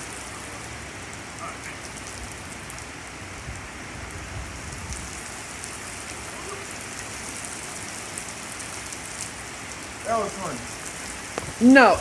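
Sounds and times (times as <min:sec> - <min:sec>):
heavy rain falling: 0:00.0 - 0:12.0
raindrops ticking close: 0:00.0 - 0:12.0.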